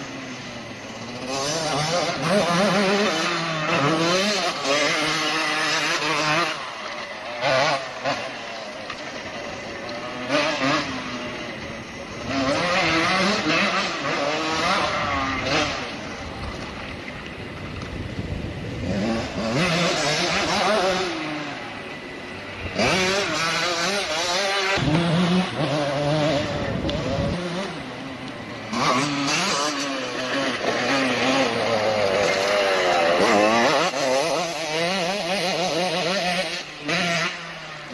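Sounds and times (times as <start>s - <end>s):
motocross bikes revving past: 0.0s - 37.9s.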